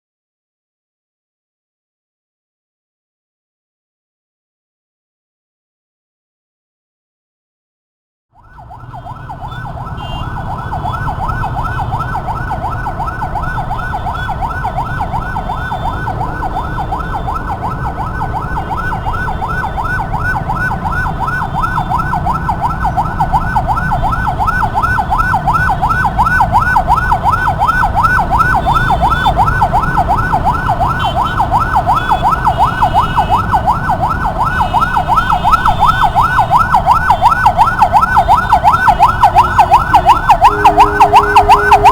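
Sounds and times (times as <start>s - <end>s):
ambulance siren yelping: 8.4s - 41.9s
low traffic rumble: 8.4s - 41.9s.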